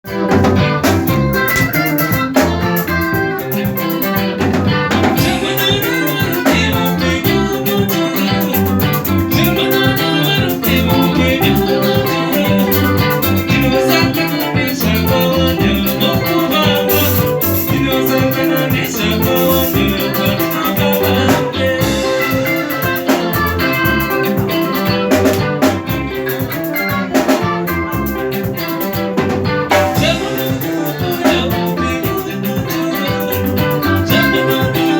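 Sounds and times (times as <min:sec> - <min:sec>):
live band music with percussion: 0:00.0 - 0:34.9.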